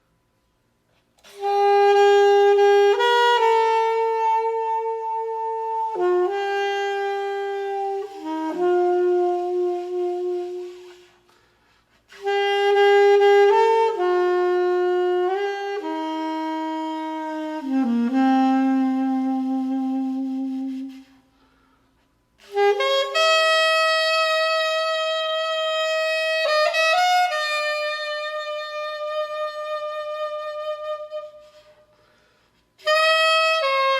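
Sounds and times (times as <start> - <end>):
solo saxophone melody: 0.7 - 33.9.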